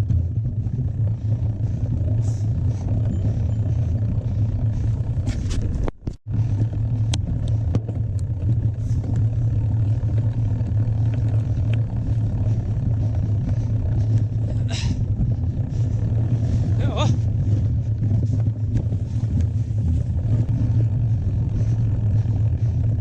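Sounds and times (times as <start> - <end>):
bike clicks and rattles: 0.0 - 23.0
bike rumbling over rough trail: 0.0 - 23.0.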